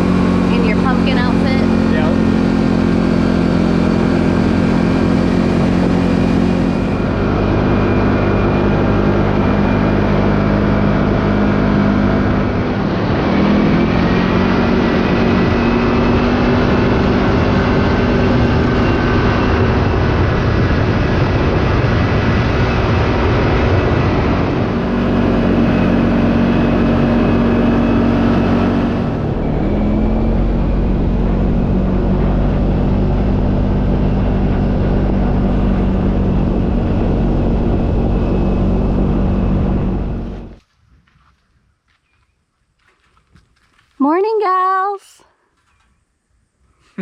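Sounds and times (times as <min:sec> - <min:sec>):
utility vehicle engine running: 0:00.0 - 0:40.6.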